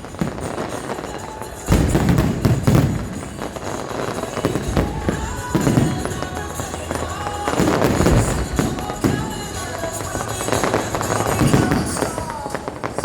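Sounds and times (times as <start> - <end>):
fireworks bursting with booms: 0.0 - 13.0
fireworks crackle: 0.0 - 13.0.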